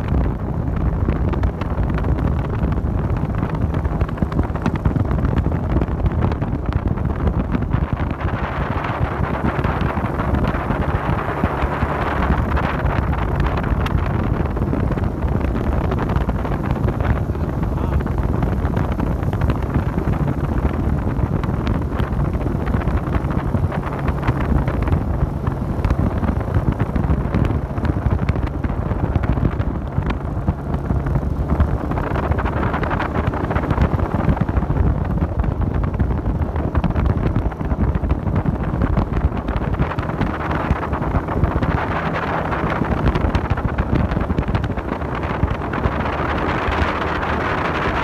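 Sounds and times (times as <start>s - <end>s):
boat engine running: 0.0s - 48.0s
wind buffeting microphone: 0.0s - 48.0s.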